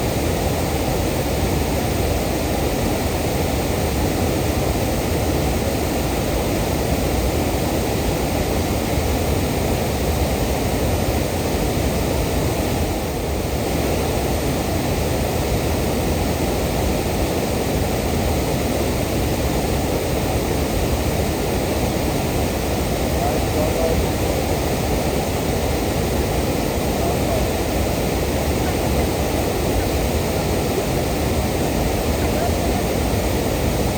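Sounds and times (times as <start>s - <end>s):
waterfall roaring onto rock: 0.0s - 33.9s.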